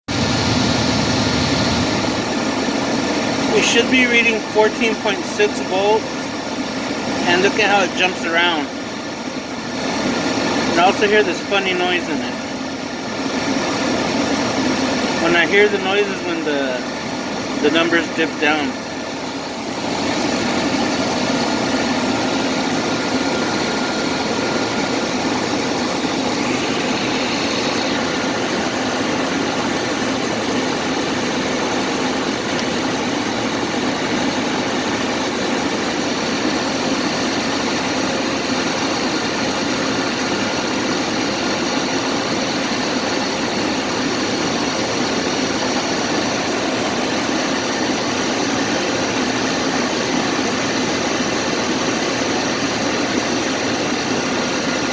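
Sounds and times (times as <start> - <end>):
vehicle engine idling: 0.1 - 54.9
faint high whine: 0.2 - 54.9.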